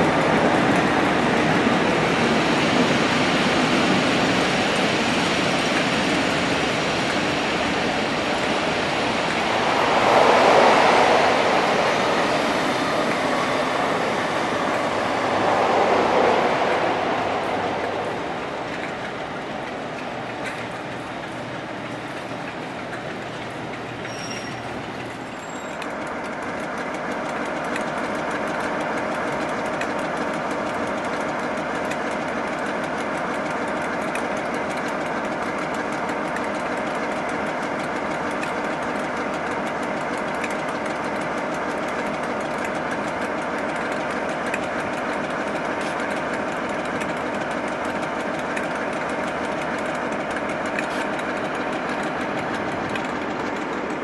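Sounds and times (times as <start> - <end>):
diesel engine drone: 0.0 - 54.0
wheel and rail noise: 0.0 - 54.0.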